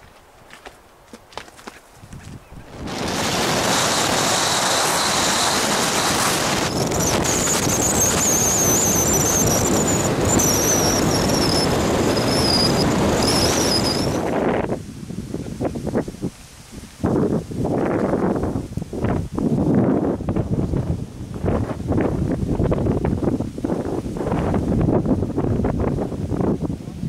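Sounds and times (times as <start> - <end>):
vehicle wind and road noise: 0.0 - 27.0.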